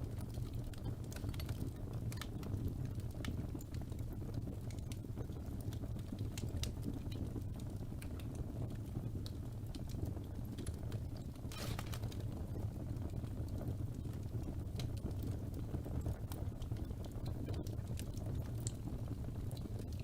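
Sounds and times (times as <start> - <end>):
burning logs crackling and popping: 0.0 - 20.0
low rumble of flames: 0.0 - 20.0.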